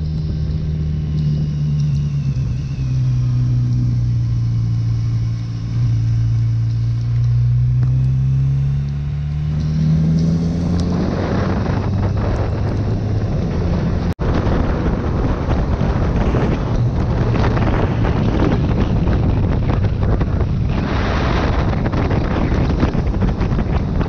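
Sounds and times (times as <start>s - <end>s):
motorcycle engine cruising: 0.0s - 24.0s
tyres on wet road: 0.0s - 24.0s
wind rush: 0.0s - 24.0s.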